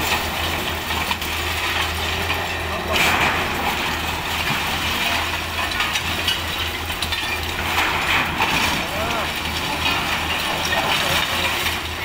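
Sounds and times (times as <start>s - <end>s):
excavator diesel engines running: 0.0s - 12.0s
rubble clinking and clattering: 0.0s - 12.0s.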